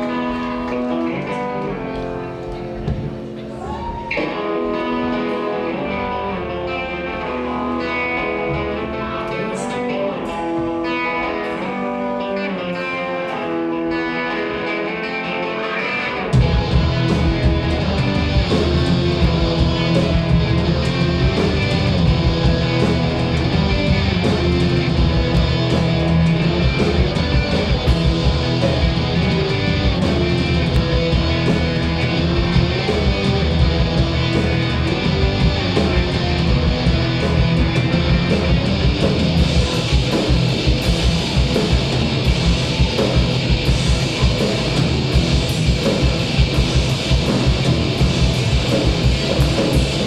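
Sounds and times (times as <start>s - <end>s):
bass guitar: 0.0s - 50.0s
drums: 0.0s - 50.0s
electric guitar riff: 0.0s - 50.0s.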